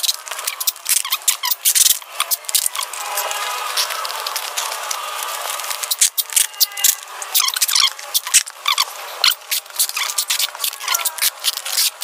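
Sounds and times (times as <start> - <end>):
bubble wrap crinkling: 0.0 - 12.0
packing tape screeching off dispenser: 0.0 - 12.0.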